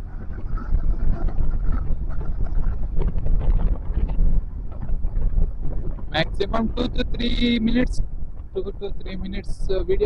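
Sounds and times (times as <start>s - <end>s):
motorcycle running: 0.0s - 10.0s
wind buffeting microphone: 0.0s - 10.0s.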